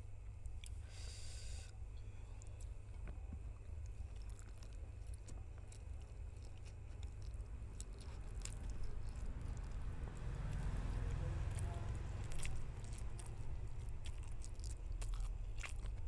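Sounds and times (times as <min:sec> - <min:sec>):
chewing noodles: 0:02.4 - 0:16.0.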